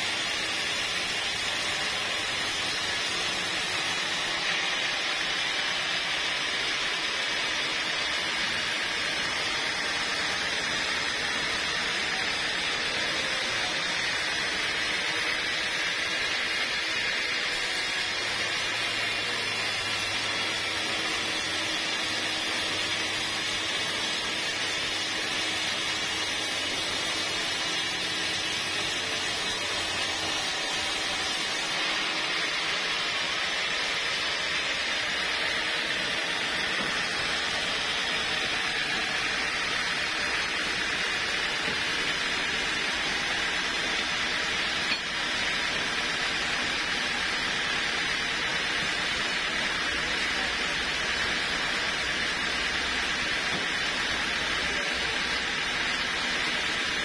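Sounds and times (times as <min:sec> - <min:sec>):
band saw cutting through log: 0:00.0 - 0:57.0.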